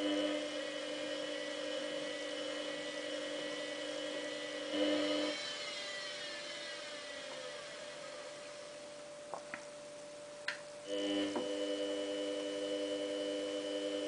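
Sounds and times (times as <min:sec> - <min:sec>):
washing machine drum motor whine: 0:00.0 - 0:14.0.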